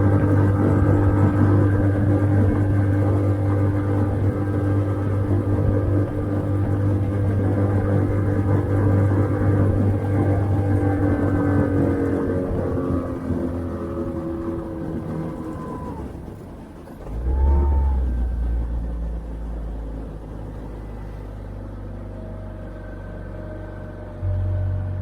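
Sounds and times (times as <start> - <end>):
low rumble: 0.0 - 25.0
outboard motor running: 0.0 - 25.0.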